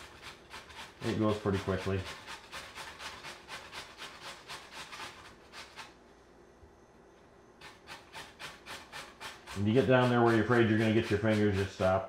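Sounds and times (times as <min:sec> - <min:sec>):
potato grating on metal grater: 0:00.0 - 0:06.0, 0:07.6 - 0:12.0.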